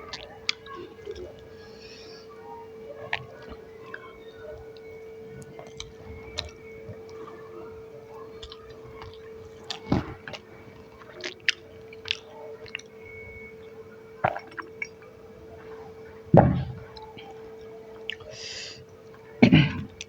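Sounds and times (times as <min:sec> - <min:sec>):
chewing and squishing food: 0:00.0 - 0:20.0.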